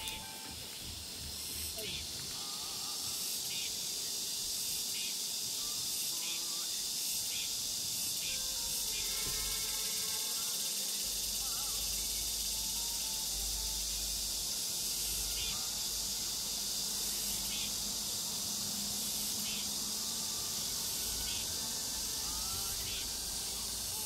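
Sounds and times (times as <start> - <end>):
insects chorus hissing: 0.0 - 24.0.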